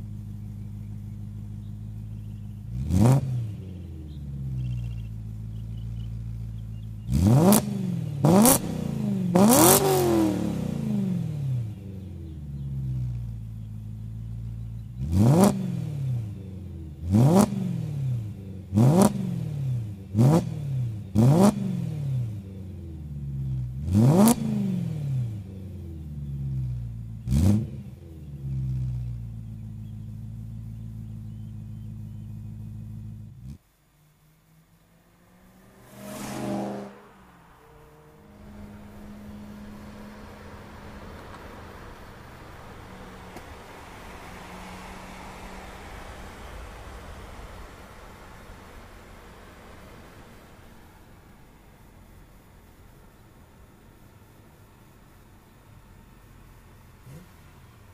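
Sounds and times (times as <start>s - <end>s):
car engine idling: 0.0s - 21.3s, 25.3s - 57.9s
car engine throttle blips: 0.0s - 57.9s.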